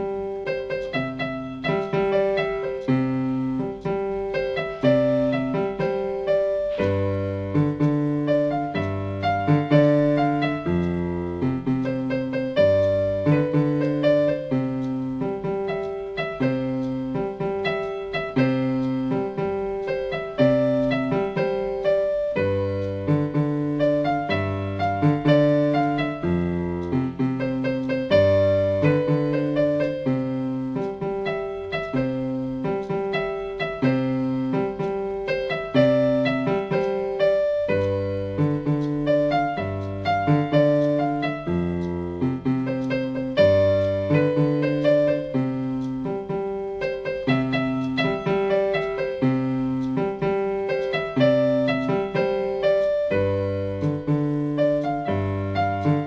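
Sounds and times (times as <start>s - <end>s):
electronic keyboard piano melody: 0.0s - 56.0s.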